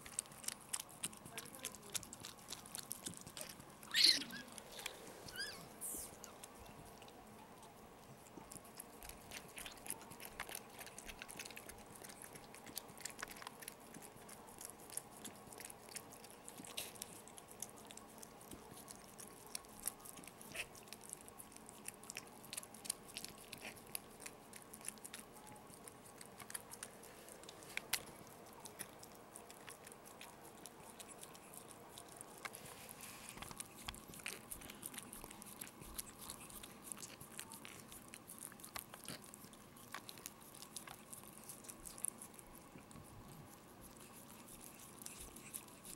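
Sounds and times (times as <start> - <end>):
dog licking and chewing: 0.0 - 45.9.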